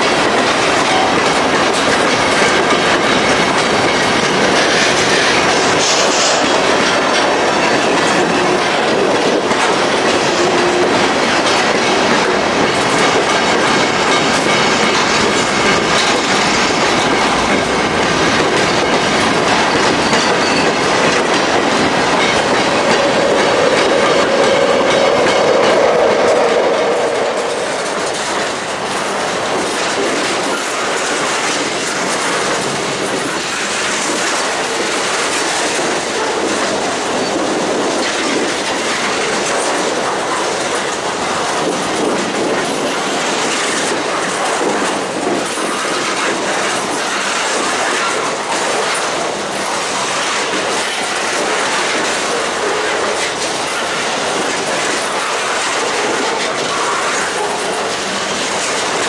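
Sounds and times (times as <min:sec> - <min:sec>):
train wheels clicking over rail joints: 0:00.0 - 0:59.0.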